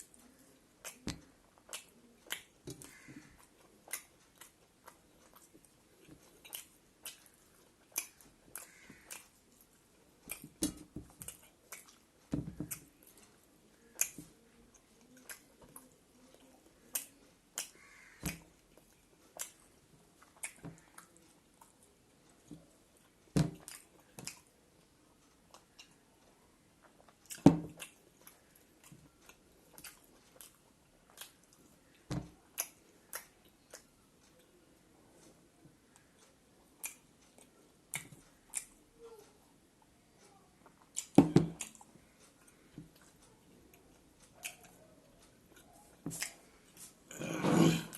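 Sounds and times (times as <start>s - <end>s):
person chewing: 0.0s - 24.5s, 25.2s - 34.6s, 40.6s - 47.9s.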